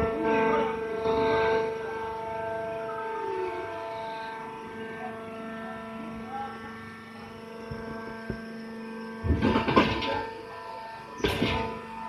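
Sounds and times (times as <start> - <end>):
baler machine hum: 0.0 - 12.0.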